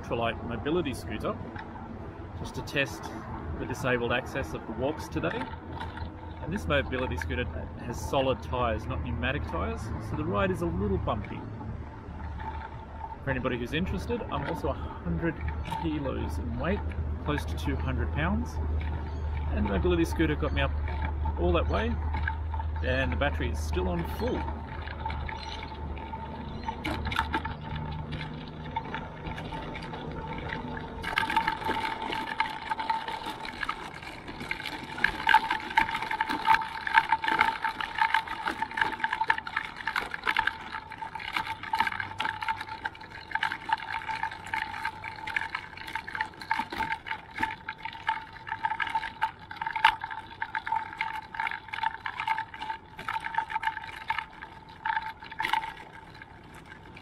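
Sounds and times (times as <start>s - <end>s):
tyres rattling over asphalt: 0.0s - 57.0s.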